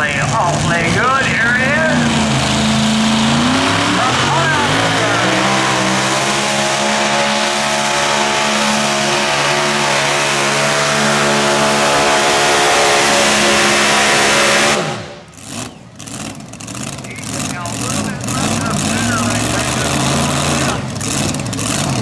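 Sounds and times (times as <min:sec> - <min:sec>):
supercharged tractor engine roaring: 0:00.0 - 0:22.0.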